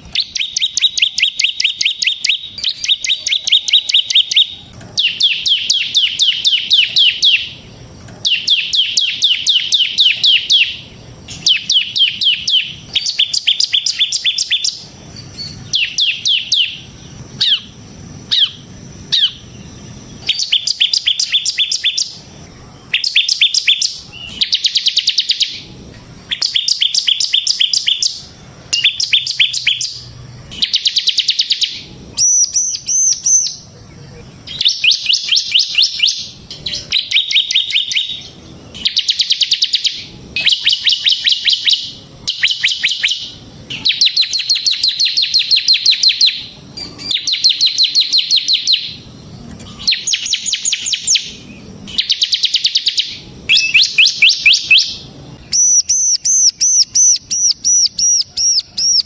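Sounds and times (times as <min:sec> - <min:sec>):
bird singing rapid high notes: 0:00.0 - 0:59.0.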